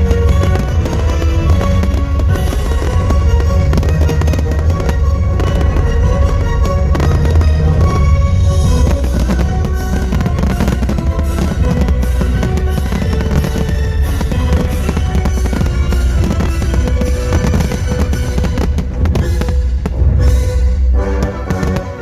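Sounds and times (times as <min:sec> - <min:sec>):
fireworks bangs and crackles: 0:00.0 - 0:22.0
music with drums: 0:00.0 - 0:22.0.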